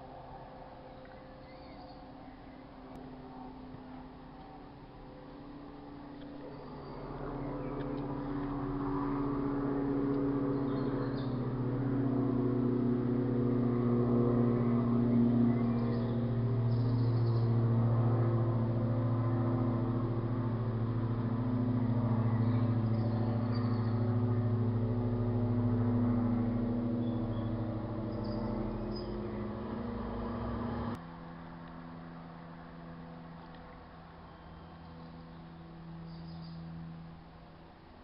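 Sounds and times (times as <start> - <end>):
propeller plane engine droning: 0.0 - 38.0.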